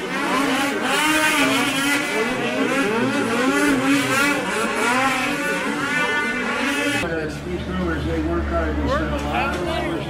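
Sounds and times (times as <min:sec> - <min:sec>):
snowmobile engines revving: 0:00.0 - 0:10.0.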